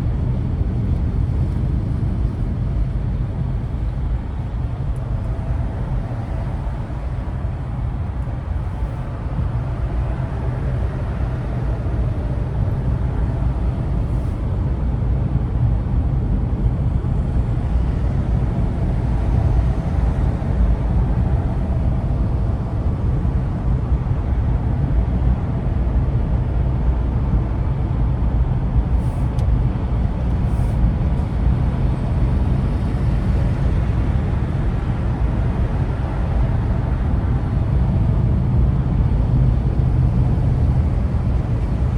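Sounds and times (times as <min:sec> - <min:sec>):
road noise: 0:00.0 - 0:41.9
vehicle engine rumble: 0:00.0 - 0:41.9.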